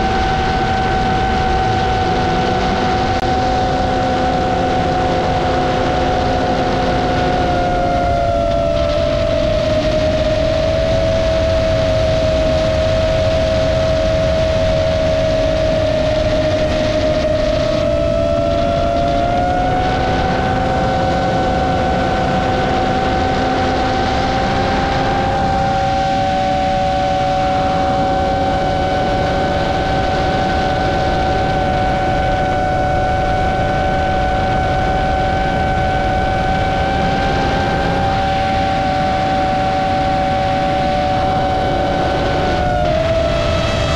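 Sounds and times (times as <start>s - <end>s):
quadcopter motors whining: 0.0s - 43.9s
rush of air noise: 0.0s - 43.9s.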